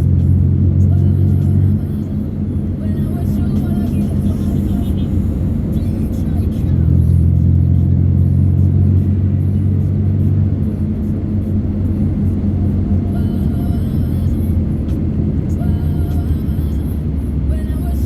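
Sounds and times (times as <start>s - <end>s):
vehicle rumble on road: 0.0s - 18.0s.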